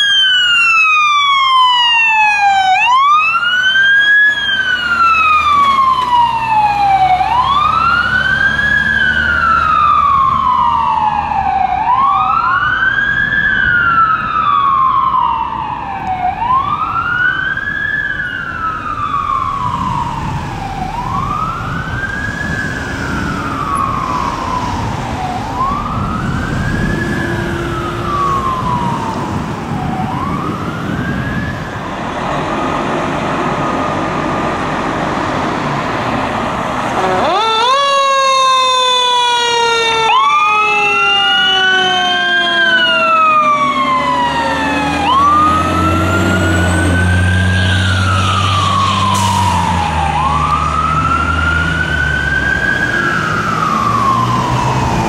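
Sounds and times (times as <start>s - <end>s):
steady siren tone: 0.0s - 34.5s, 36.3s - 55.0s
fire engine siren wailing: 0.0s - 55.0s
truck engine rumble: 0.0s - 55.0s.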